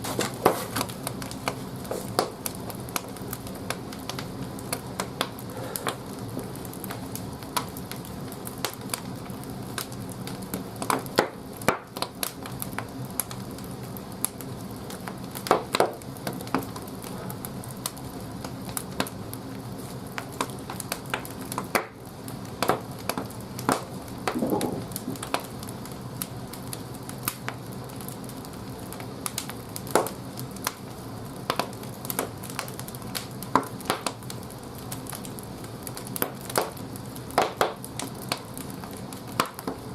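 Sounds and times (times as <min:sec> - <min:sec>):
steady low hum: 0:00.0 - 0:10.9, 0:11.5 - 0:36.0
firewood crackling and popping: 0:00.0 - 0:39.9.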